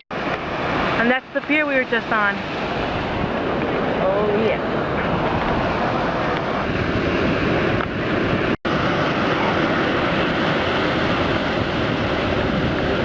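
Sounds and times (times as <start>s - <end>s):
surf: 0.1s - 13.0s
wind buffeting microphone: 0.1s - 13.0s.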